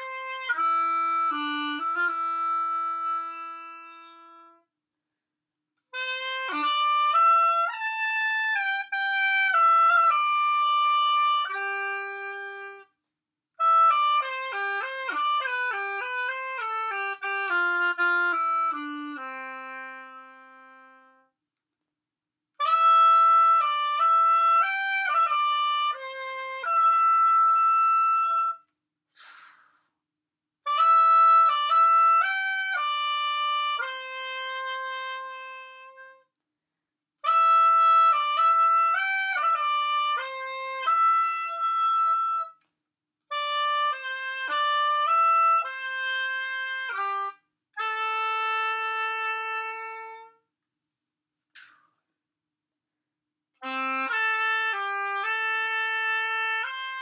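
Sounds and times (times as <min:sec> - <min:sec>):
solo oboe melody: 0:00.0 - 0:04.7, 0:05.8 - 0:13.0, 0:13.6 - 0:21.4, 0:22.6 - 0:28.7, 0:30.6 - 0:36.4, 0:37.2 - 0:42.7, 0:43.3 - 0:50.5, 0:53.6 - 0:57.0.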